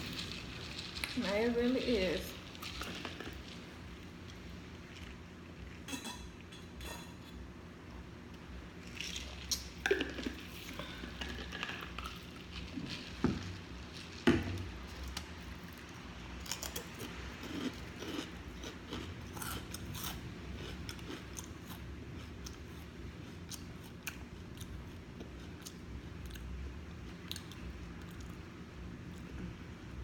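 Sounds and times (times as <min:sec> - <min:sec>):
chewing potato chips: 0:00.0 - 0:07.2, 0:08.3 - 0:29.4.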